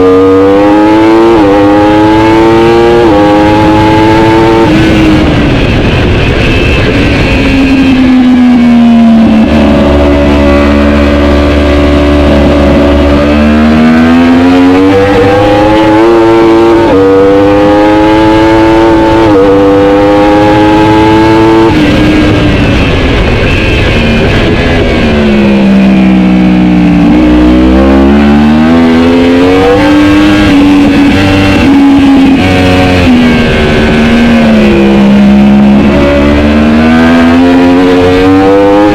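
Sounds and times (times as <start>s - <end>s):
racing motorcycle engine revving: 0.0s - 38.9s.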